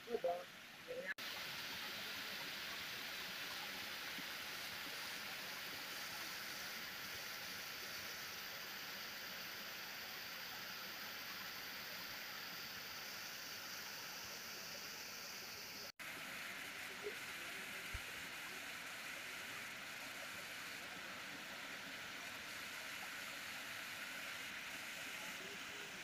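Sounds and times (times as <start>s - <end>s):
rush of flowing water: 0.0s - 26.0s.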